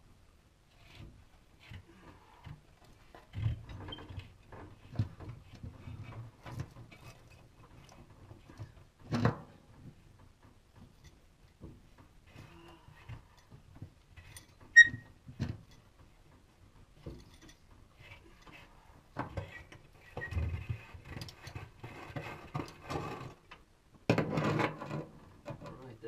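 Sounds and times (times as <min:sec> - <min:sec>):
metal rattling and scraping: 0:00.7 - 0:23.5, 0:24.1 - 0:26.0.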